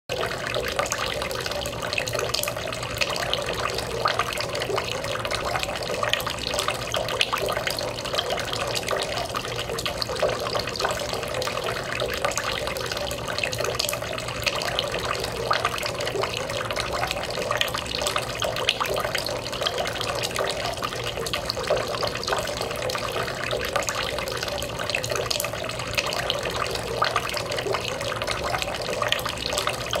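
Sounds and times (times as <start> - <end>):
fountain water trickling into basin: 0.1 - 30.0.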